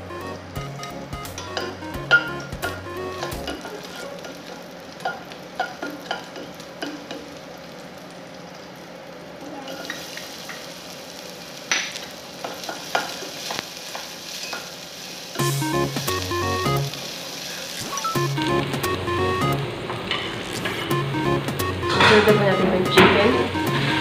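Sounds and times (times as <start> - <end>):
garlic sizzling in a pot: 0.9 - 19.3, 20.0 - 24.0.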